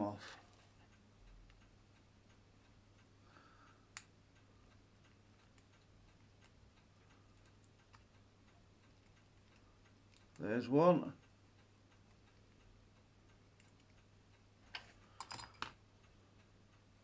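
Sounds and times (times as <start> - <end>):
pocket watch ticking: 0.7 - 16.9.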